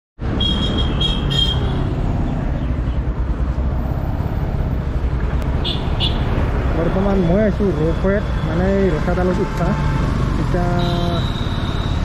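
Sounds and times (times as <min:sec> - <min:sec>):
road traffic noise: 0:00.2 - 0:12.0.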